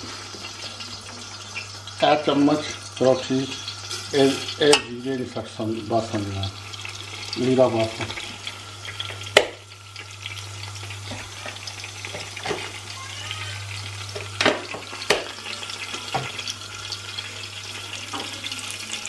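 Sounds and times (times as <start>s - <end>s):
seeds sizzling in hot oil: 0.0s - 19.0s.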